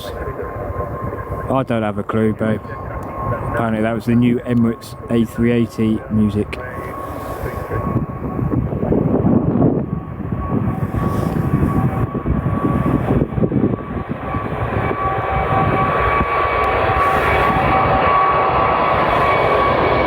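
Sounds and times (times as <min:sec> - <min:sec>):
jet engines roaring with whine: 0:00.0 - 0:20.0.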